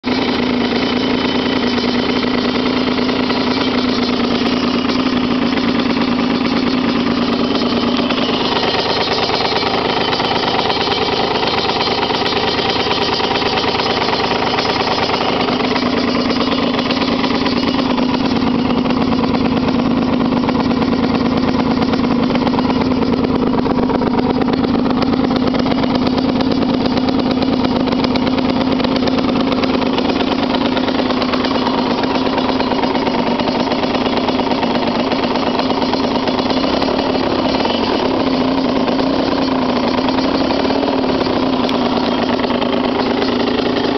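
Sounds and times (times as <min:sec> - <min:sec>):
two-stroke motorcycle engine running: 0:00.0 - 0:43.9.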